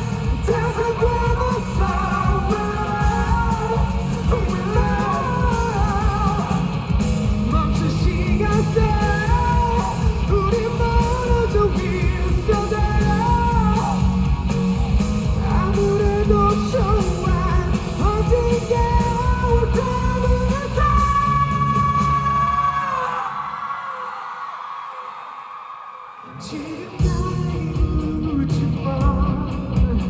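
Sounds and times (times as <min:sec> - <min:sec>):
man singing: 0:00.0 - 0:24.1, 0:26.2 - 0:30.0
live pop-rock band: 0:00.0 - 0:25.1, 0:26.2 - 0:30.0.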